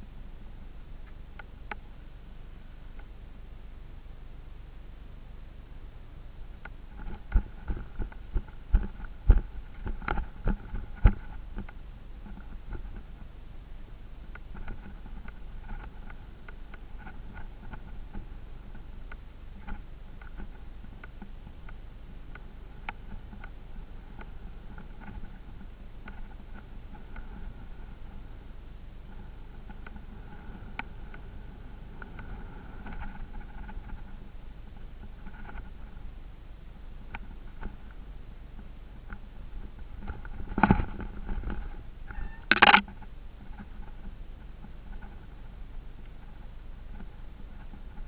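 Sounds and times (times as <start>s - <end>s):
vehicle low rumble: 0.0s - 48.0s.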